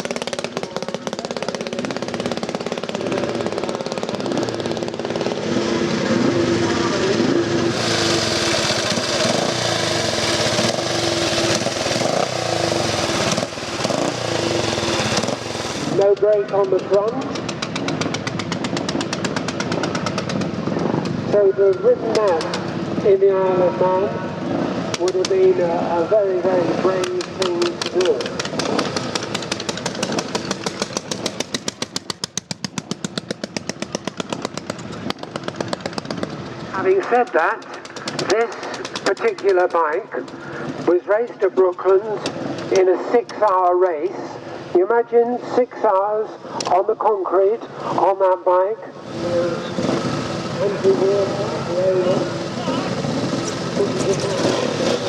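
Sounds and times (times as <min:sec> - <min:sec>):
motorcycle engine running: 0:00.0 - 0:40.9, 0:49.0 - 0:55.0.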